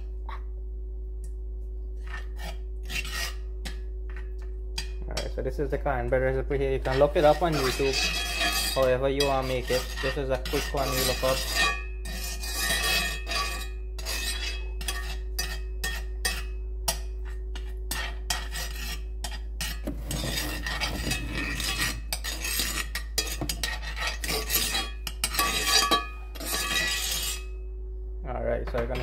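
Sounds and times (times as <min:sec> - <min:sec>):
metal spoon scraping skillet: 0:02.0 - 0:05.3, 0:06.8 - 0:27.6.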